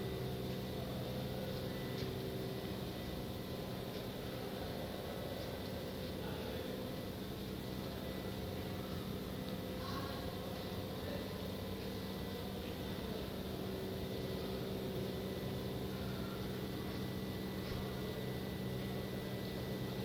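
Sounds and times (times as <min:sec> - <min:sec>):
faint high whine: 0:00.0 - 0:20.0
steady mechanical hum: 0:00.0 - 0:20.0.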